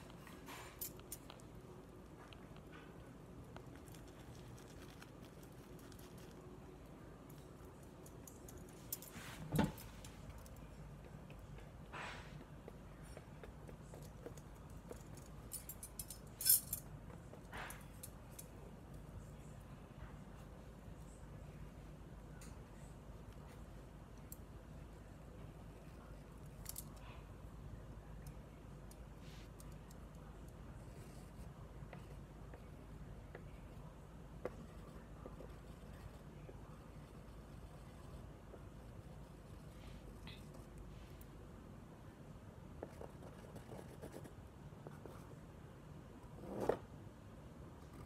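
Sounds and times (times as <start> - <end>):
low room hum: 0.0 - 48.0.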